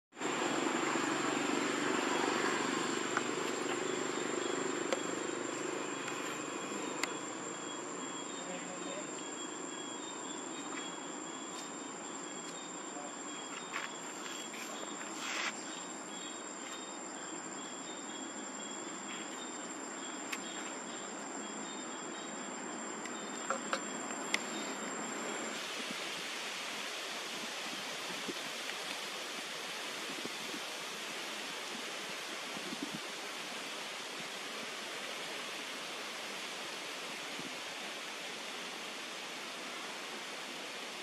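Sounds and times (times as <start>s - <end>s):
even hiss: 0.1s - 17.5s, 18.3s - 41.0s.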